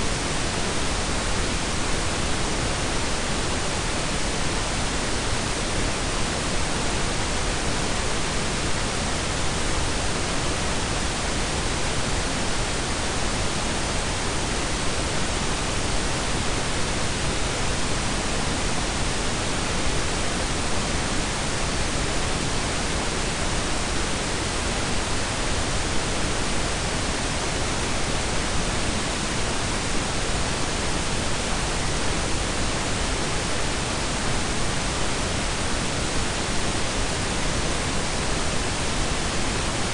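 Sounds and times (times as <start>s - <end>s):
steady noise hiss: 0.0s - 39.9s.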